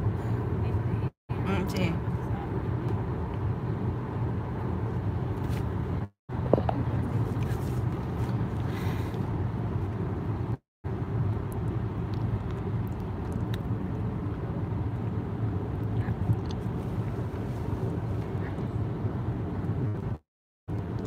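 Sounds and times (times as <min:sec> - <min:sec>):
road and engine rumble in car: 0:00.0 - 0:21.0.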